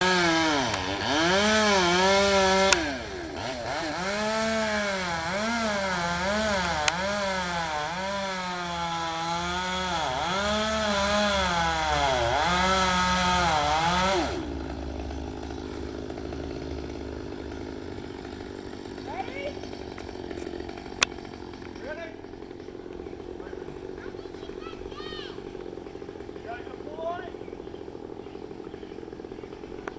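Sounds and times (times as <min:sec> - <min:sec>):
chainsaw cutting branch: 0:00.0 - 0:29.9.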